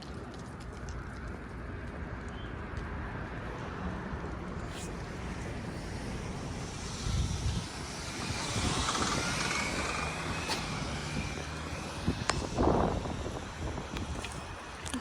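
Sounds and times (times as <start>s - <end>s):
motor vehicle passing: 1.6s - 15.0s.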